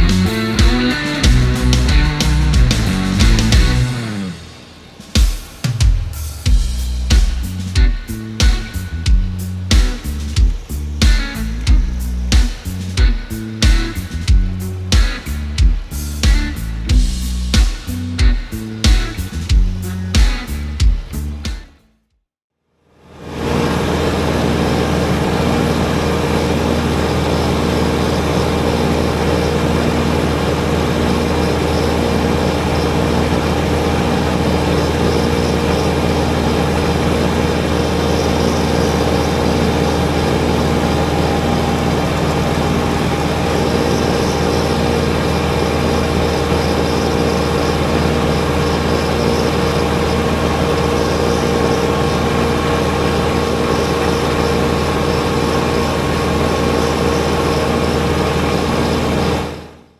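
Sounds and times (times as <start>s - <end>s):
snowblower turning: 0.0s - 21.6s, 23.0s - 59.9s
tractor diesel engine running: 0.0s - 21.6s, 23.1s - 59.9s.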